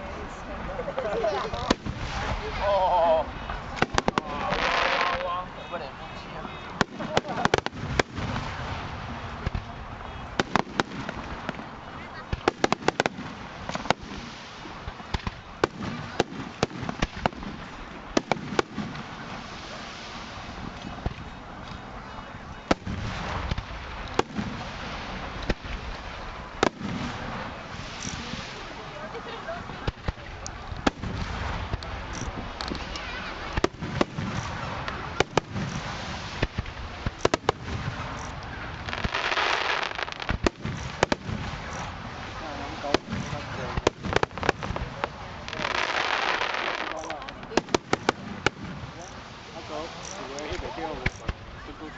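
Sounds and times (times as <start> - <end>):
fireworks bursting with sharp bangs: 0.0 - 51.9.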